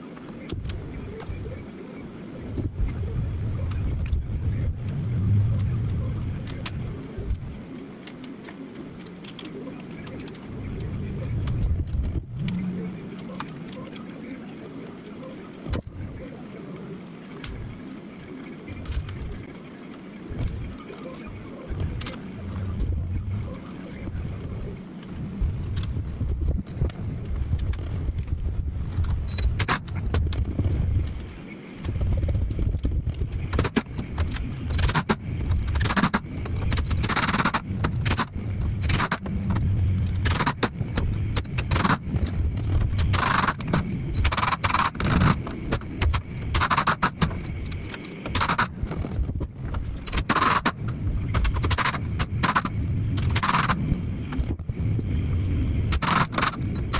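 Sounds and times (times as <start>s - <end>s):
low rumble: 2.3s - 7.7s, 10.2s - 13.9s, 20.2s - 56.9s.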